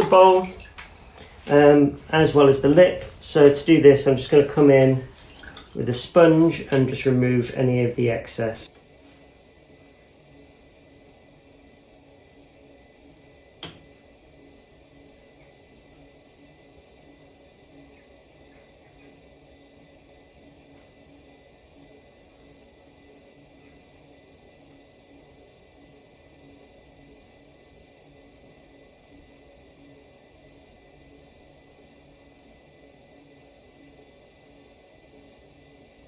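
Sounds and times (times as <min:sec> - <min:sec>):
electric potter's wheel humming: 0:00.0 - 0:36.0
high whine: 0:00.0 - 0:36.0.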